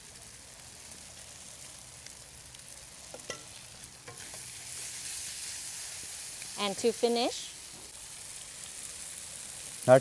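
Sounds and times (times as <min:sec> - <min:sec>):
food sizzling in a hot pan: 0:00.0 - 0:10.0.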